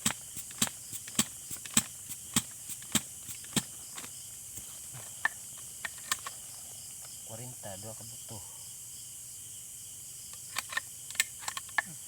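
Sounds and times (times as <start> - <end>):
night insects droning: 0.0 - 12.0.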